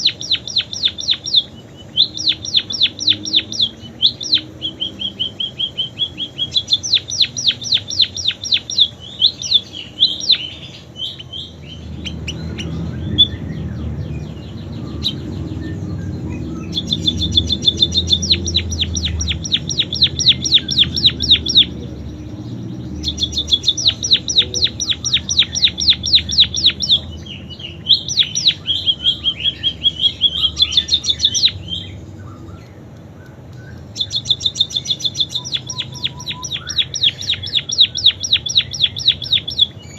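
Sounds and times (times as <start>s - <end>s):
bird singing fast high trills: 0.0s - 32.7s, 33.6s - 39.9s
low background rumble: 0.0s - 39.9s.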